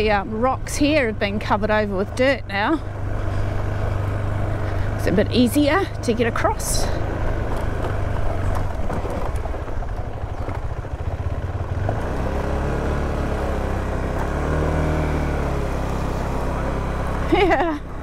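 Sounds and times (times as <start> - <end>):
motorcycle engine at low speed: 0.0 - 18.0.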